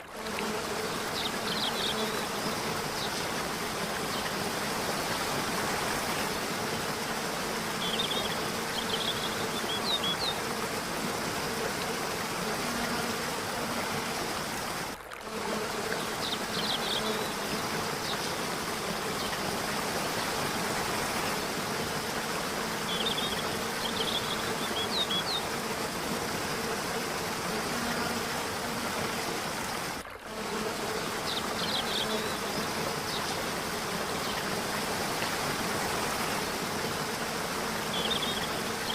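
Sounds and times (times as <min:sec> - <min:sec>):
falling water: 0:00.0 - 0:38.9.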